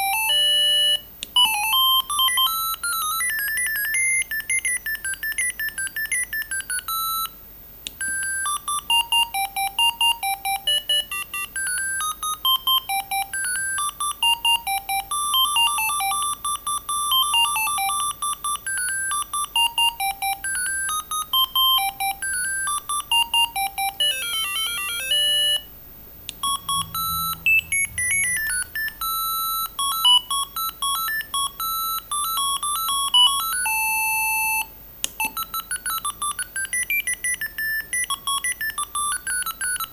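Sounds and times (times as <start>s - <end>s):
mobile phone beeping ringtones: 0.0s - 7.4s, 8.0s - 25.7s, 26.4s - 39.9s.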